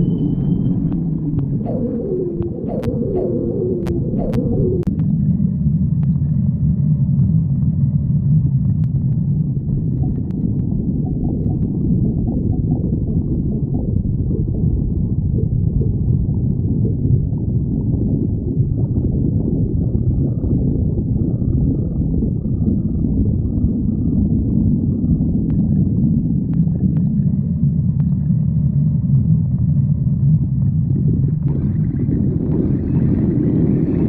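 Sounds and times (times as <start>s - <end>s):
stomach growling: 0.0s - 34.0s.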